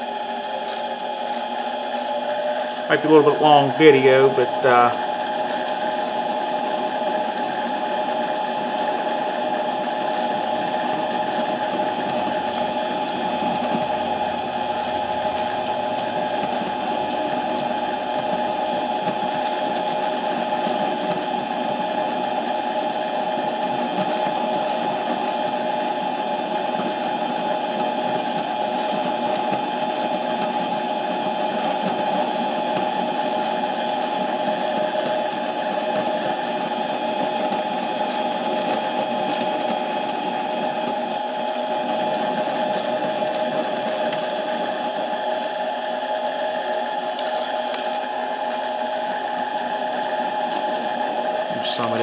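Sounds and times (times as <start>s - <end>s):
lathe motor whining: 0.0s - 52.0s.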